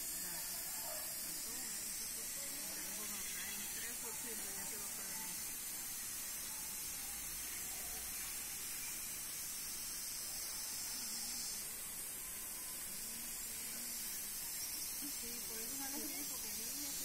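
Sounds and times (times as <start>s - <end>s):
high-pitched outdoor hiss: 0.0s - 17.0s.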